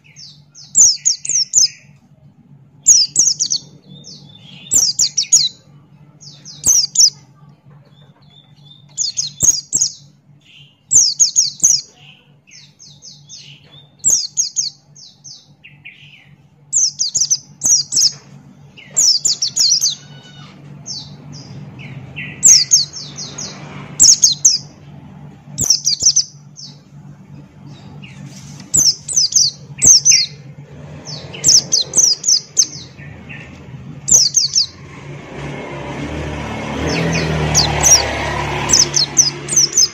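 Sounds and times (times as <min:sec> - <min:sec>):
bird singing rapid high chirps: 0:00.0 - 0:02.0, 0:02.8 - 0:07.2, 0:07.9 - 0:39.9
steady low hum: 0:00.0 - 0:35.9.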